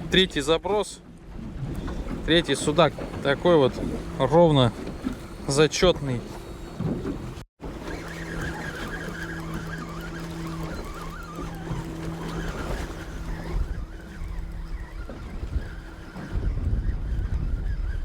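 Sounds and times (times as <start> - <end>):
boat motor humming: 0.0 - 18.0
wind and water rushing: 0.0 - 18.0.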